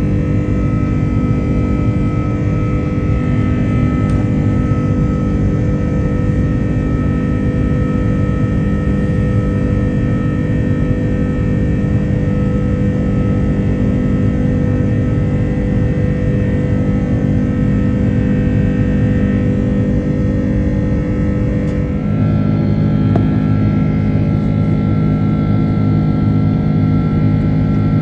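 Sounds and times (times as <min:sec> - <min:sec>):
jet engines droning in cabin: 0:00.0 - 0:28.0
steady whining tones: 0:00.0 - 0:28.0.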